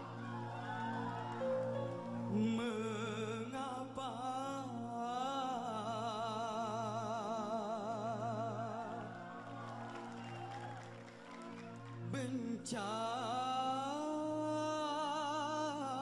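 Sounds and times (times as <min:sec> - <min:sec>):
sustained backing music: 0:00.0 - 0:16.0.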